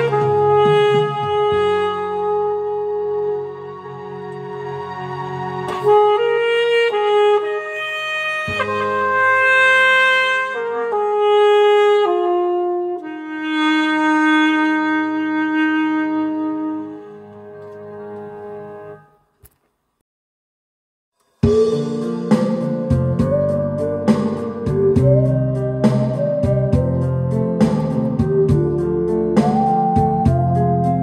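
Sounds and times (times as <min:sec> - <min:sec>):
backing track chords: 0:00.0 - 0:19.3, 0:21.4 - 0:31.0
wind instrument melody: 0:00.0 - 0:19.3, 0:21.4 - 0:31.0.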